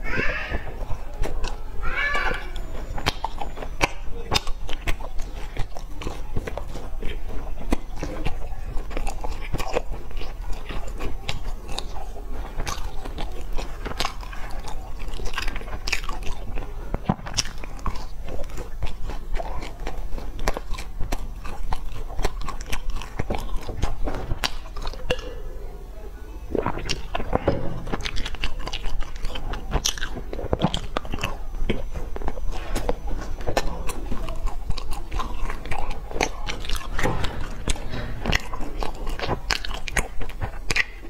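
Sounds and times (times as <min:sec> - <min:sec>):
biting and chewing crusty pastry: 0:00.0 - 0:41.0.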